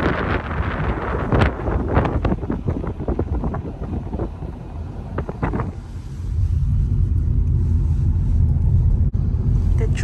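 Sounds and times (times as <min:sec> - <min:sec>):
car cabin road and engine rumble: 0:00.0 - 0:10.0
wind buffeting microphone: 0:00.0 - 0:10.0.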